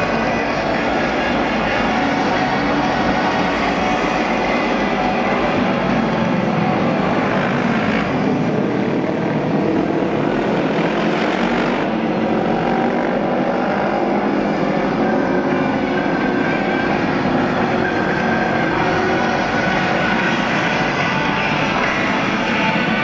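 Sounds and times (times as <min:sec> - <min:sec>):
racing motorcycles engines: 0:00.0 - 0:23.0.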